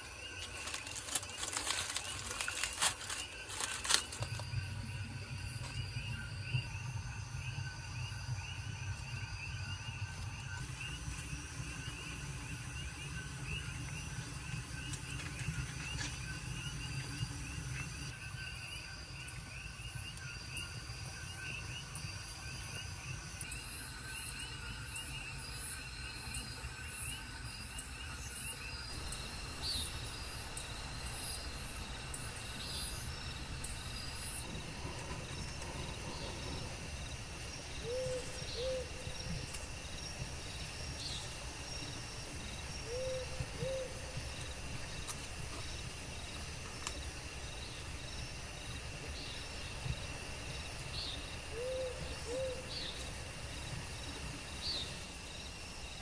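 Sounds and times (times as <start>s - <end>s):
insects and crickets chirping: 0.0s - 56.0s.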